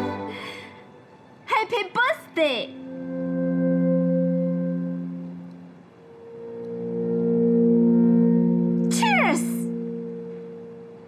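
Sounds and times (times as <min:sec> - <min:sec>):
drone-like music chord: 0:00.0 - 0:01.4, 0:02.7 - 0:11.0.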